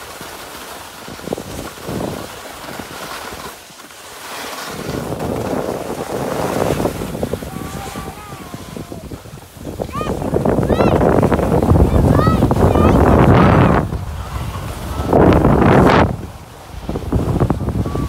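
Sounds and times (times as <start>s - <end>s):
skis scraping on packed snow: 0.0s - 18.0s
wind on microphone: 1.0s - 3.5s, 4.6s - 18.0s.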